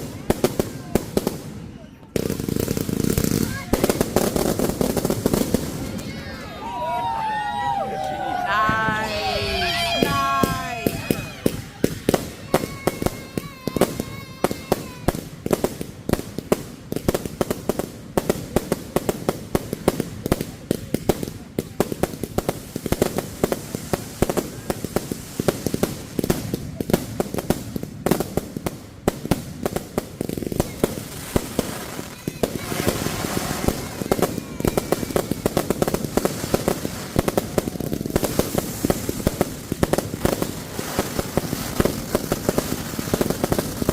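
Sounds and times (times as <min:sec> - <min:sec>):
firework whistling: 0:00.0 - 0:16.4, 0:22.5 - 0:43.9
fireworks bangs and pops: 0:00.0 - 0:43.9.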